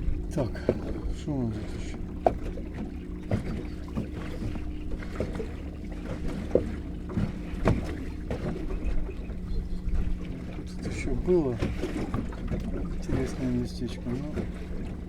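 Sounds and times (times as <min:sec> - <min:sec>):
boat motor humming: 0:00.0 - 0:15.0
waves slapping a hull: 0:00.0 - 0:15.0.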